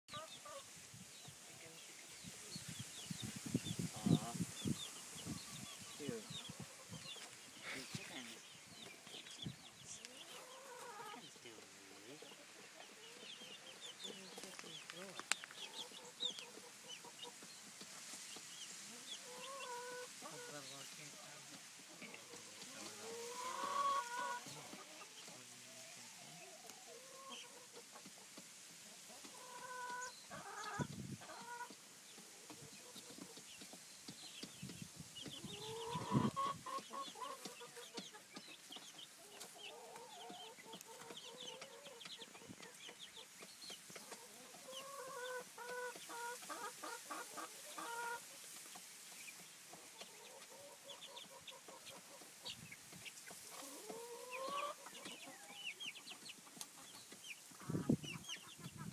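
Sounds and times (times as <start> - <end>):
chickens clucking: 0.1 - 58.9.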